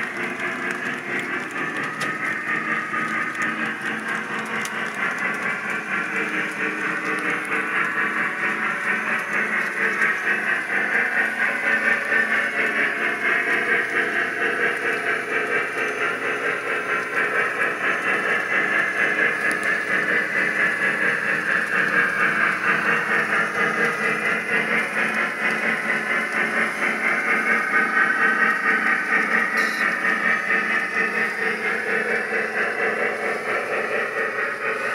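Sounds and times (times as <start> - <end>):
model steam locomotive running: 0.0 - 34.9.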